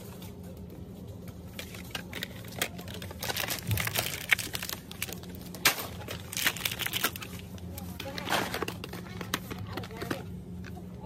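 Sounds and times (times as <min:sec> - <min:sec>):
steady low hum: 0:00.0 - 0:11.0
wrapped soap bars rustling: 0:01.4 - 0:10.3.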